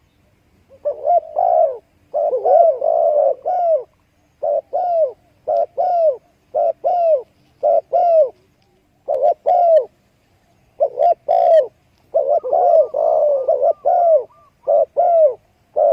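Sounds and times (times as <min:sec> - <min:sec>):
doves calling: 0:00.0 - 0:15.9.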